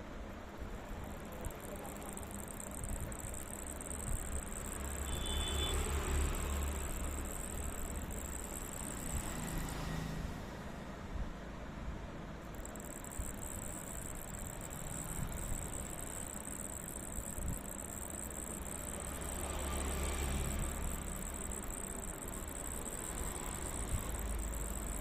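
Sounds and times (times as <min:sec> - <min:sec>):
insect high-pitched buzz: 0:00.7 - 0:10.4, 0:12.4 - 0:25.0.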